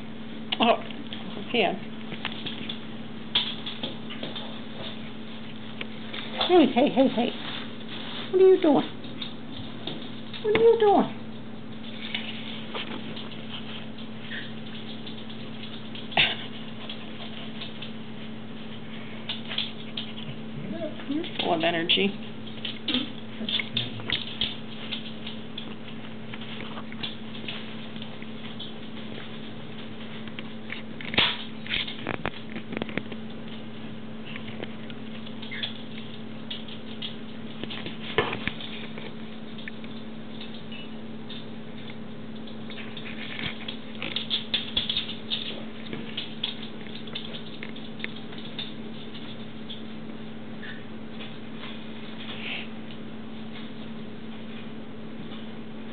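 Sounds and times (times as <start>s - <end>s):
puppy paws scrabbling on pads: 0.5s - 55.9s.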